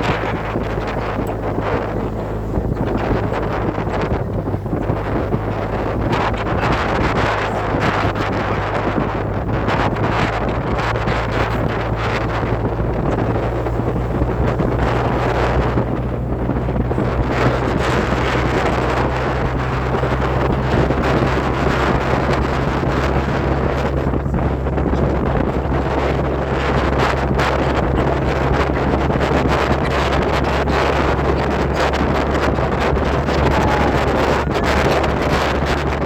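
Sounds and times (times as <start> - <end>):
low hum: 0.0 - 36.0
wind buffeting microphone: 0.0 - 36.0.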